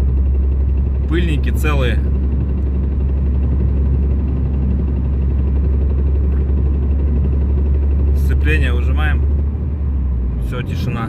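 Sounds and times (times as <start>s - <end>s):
low rough drivetrain knocking: 0.0s - 10.2s
car driving: 0.0s - 11.0s.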